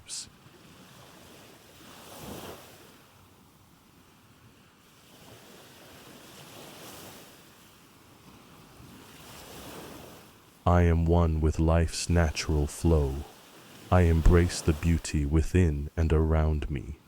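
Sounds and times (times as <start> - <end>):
soft ocean waves: 0.0 - 17.0.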